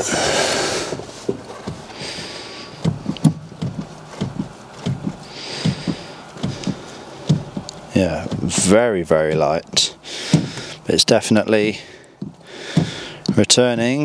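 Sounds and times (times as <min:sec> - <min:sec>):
clutch pedal knocks and clicks: 0:00.9 - 0:14.0.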